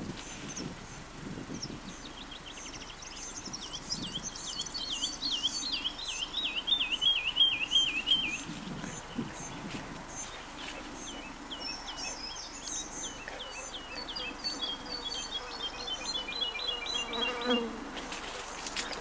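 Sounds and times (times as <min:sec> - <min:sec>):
songbird singing looping notes: 0:00.2 - 0:17.7
bird chirping high: 0:01.6 - 0:17.7.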